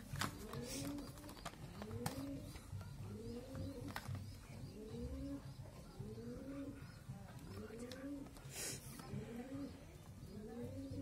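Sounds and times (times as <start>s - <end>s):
dove cooing: 0.1s - 11.0s.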